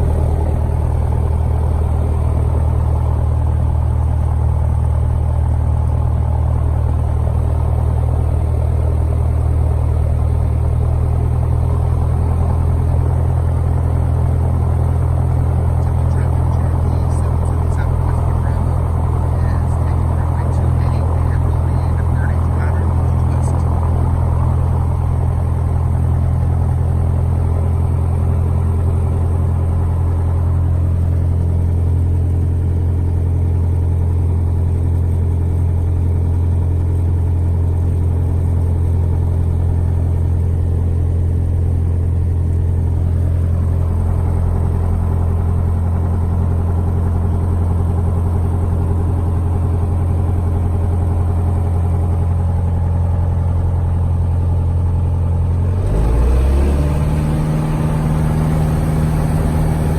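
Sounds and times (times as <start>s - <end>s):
light airplane engine droning: 0.0s - 59.9s.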